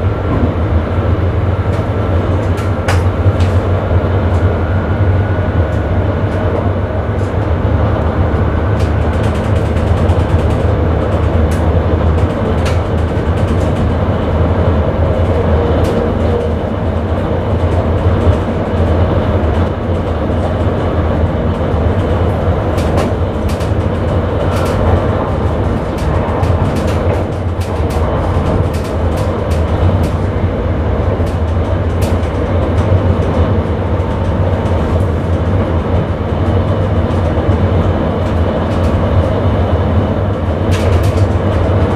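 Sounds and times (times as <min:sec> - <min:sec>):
train rumble and wheel-on-rail noise: 0:00.0 - 0:41.9.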